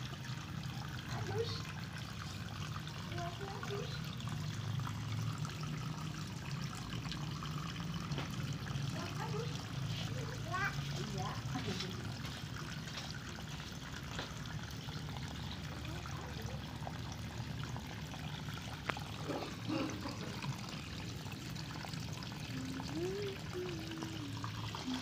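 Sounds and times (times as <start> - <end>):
water pouring into pond: 0.0 - 25.0.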